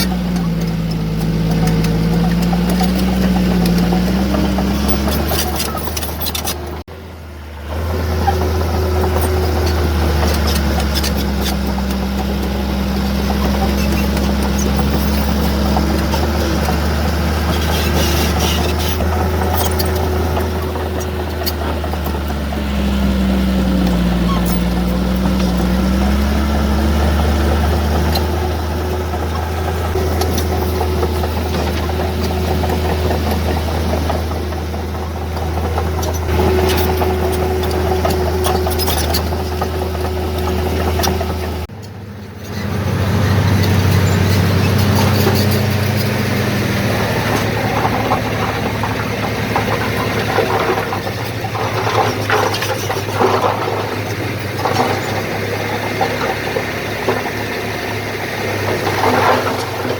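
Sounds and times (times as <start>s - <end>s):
diesel machinery engine drone: 0.0s - 59.9s
knocks and clanks: 8.2s - 41.9s, 43.5s - 59.9s.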